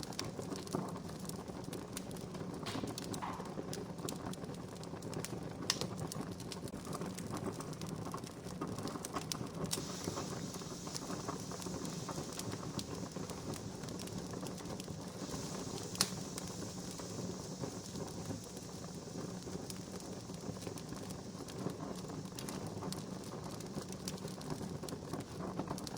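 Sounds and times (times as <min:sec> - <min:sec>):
campfire crackling: 0:00.0 - 0:25.9.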